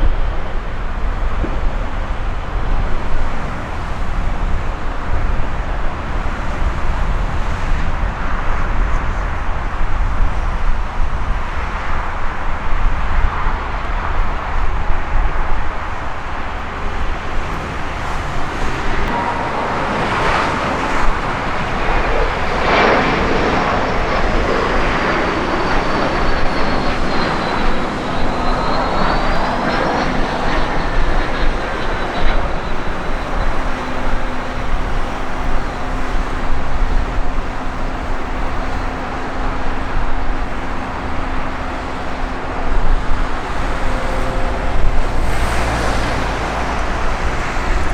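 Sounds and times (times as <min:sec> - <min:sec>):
jet engine whine: 0:00.0 - 0:47.9.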